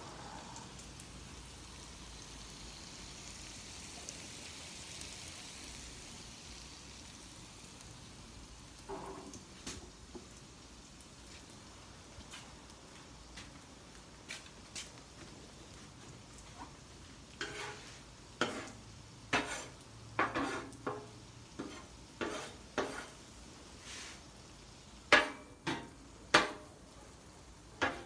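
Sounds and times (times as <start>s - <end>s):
food sizzling on griddle: 0.0s - 28.0s.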